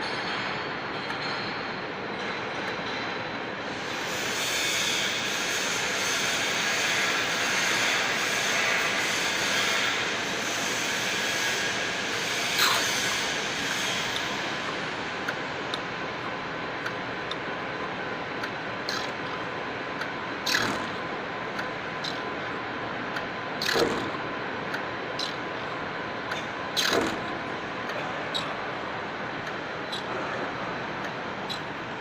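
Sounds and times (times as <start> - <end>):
machine hum with regular clicks: 0.0 - 32.0.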